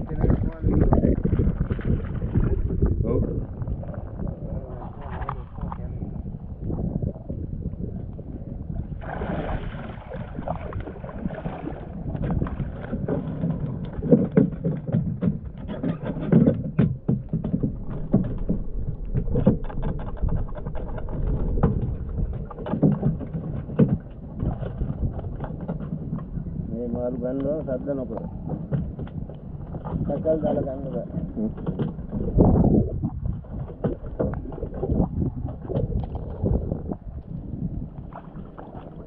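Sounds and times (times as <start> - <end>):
low rumble: 0.0 - 39.0
water splashing and sloshing: 0.0 - 39.0.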